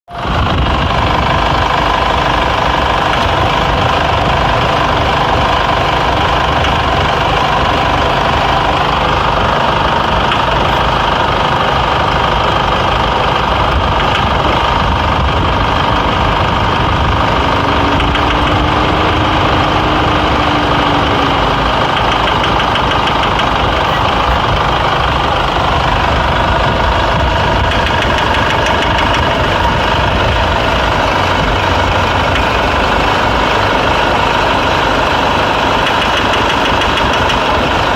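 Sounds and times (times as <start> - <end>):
car engine idling: 0.1 - 37.9.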